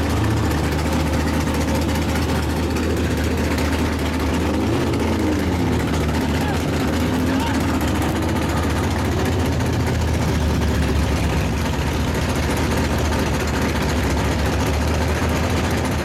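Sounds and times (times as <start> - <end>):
engine idling with deep rumble: 0.0 - 16.0.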